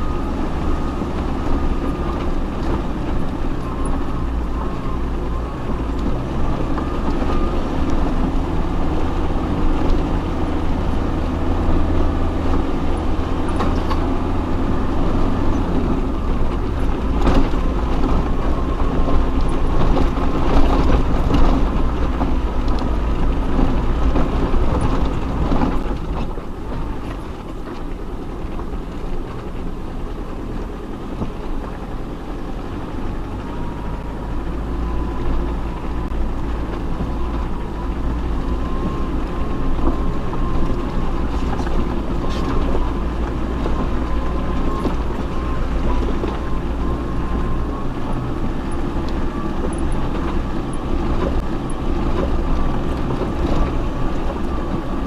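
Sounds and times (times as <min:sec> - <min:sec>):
off-road engine rumbling: 0:00.0 - 0:55.0.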